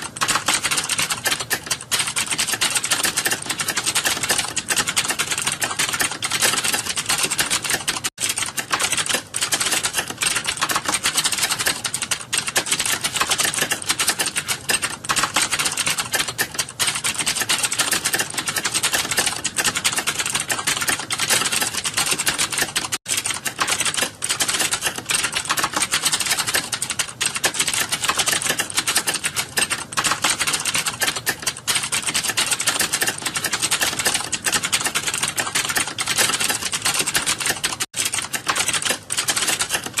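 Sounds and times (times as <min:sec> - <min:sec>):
fast keyboard typing: 0:00.0 - 0:40.0.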